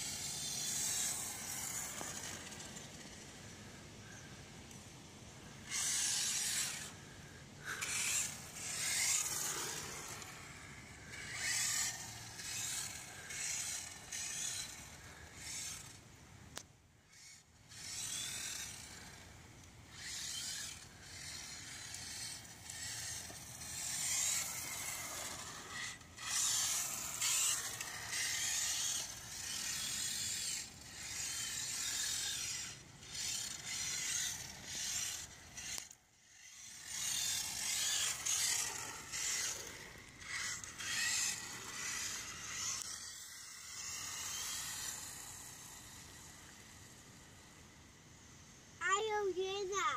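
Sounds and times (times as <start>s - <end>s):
rc car motor whine: 0.0s - 49.9s.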